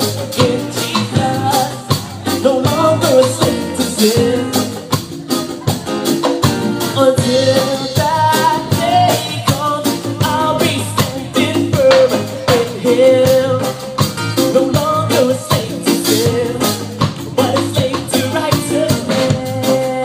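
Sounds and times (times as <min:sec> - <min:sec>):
acoustic guitars: 0:00.0 - 0:20.0
drum kit: 0:00.0 - 0:20.0
person singing: 0:00.0 - 0:20.0.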